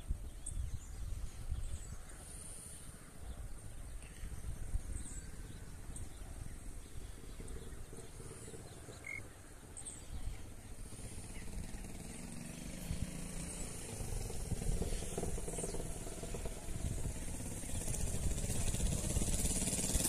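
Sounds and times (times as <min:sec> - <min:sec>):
distant motorcycle engine: 0:00.0 - 0:20.0
wind rumbling on microphone: 0:00.0 - 0:20.0
faint bird chirps: 0:00.2 - 0:19.7.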